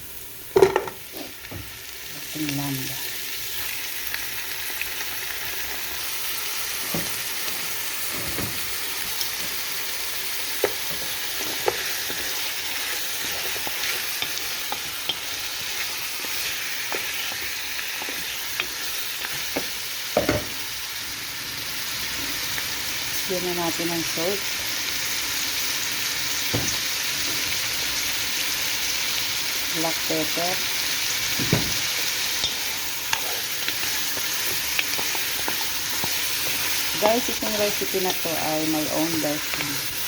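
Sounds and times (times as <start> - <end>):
meat sizzling in oil: 0.0 - 40.0.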